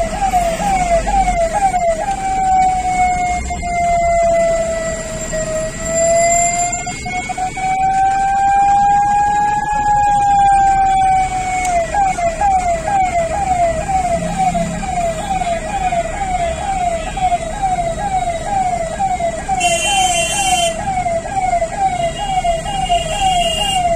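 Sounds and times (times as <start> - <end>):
electronic siren wailing and yelping: 0.0 - 23.9
harsh high-pitched siren blast: 0.0 - 23.9.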